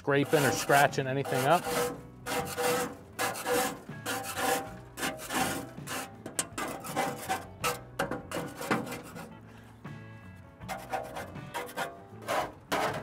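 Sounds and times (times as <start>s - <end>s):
putty knife scraping metal: 0.0s - 9.4s, 10.6s - 13.0s.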